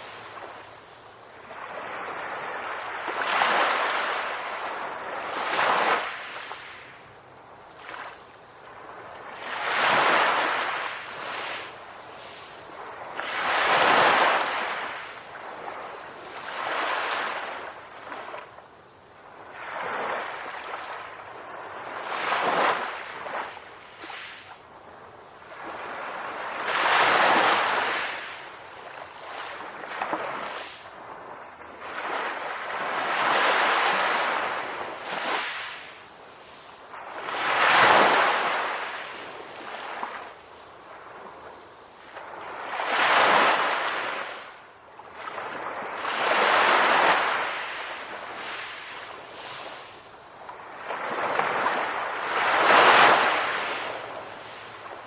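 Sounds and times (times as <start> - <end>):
ocean waves washing on beach: 0.0 - 55.0.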